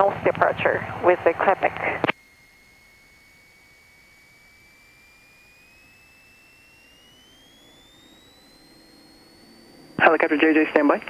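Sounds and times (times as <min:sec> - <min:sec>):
high-pitched electrical whine: 0:00.0 - 0:11.0.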